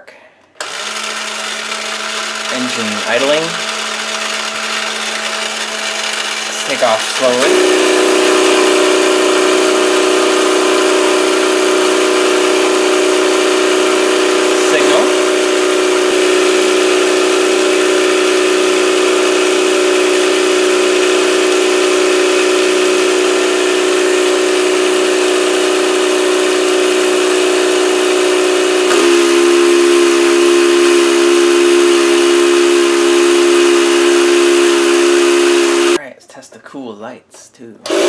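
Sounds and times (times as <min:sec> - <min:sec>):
toy electronic engine drone: 0:00.6 - 0:36.0.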